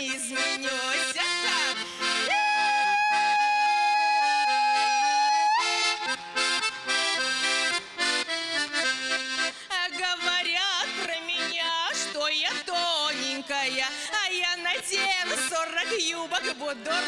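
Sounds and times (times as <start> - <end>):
button accordion dance tune: 0.0 - 17.0.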